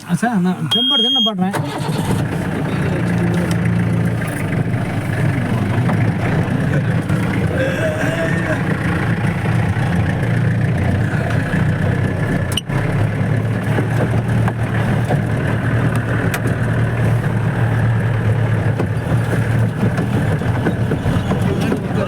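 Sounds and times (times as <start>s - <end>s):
jeep engine running: 0.0s - 22.0s.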